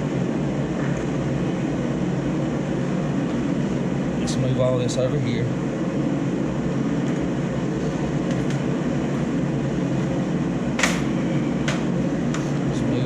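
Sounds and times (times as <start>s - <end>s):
shop heater humming: 0.0s - 13.0s.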